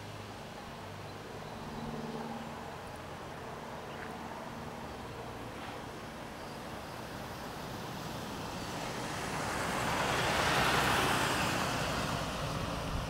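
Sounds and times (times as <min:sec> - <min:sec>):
passing vehicle rush: 0:00.0 - 0:13.0
truck road noise rumble: 0:00.0 - 0:13.0.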